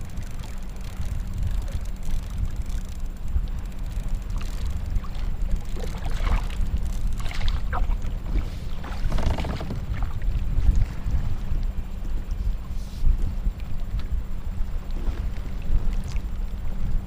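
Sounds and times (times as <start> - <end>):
water lapping against hull: 0.0 - 17.0
wind buffeting microphone: 0.0 - 17.0.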